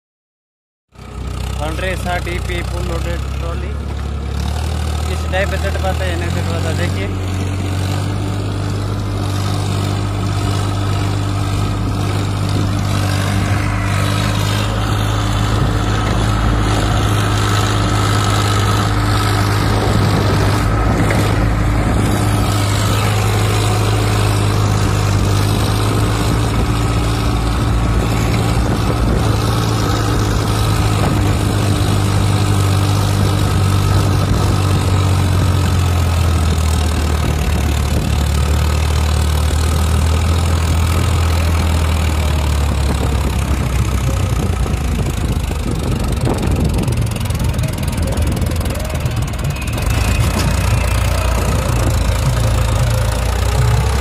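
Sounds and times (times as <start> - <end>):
tractor diesel engine running: 0.9 - 54.0.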